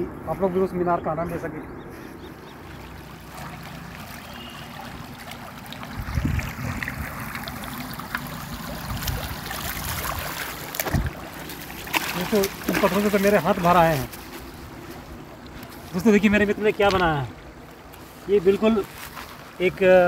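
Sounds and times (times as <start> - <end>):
river water over stones: 2.2 - 20.0.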